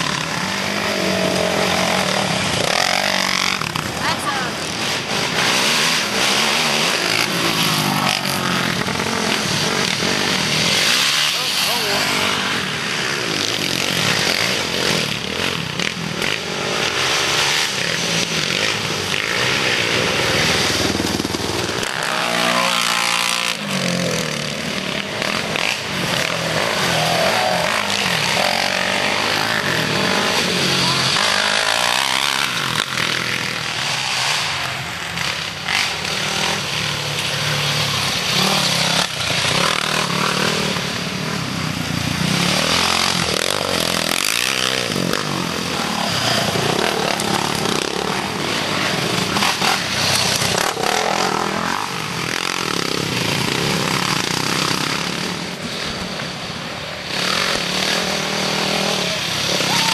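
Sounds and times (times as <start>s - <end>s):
off-road engines revving past: 0.0s - 59.9s.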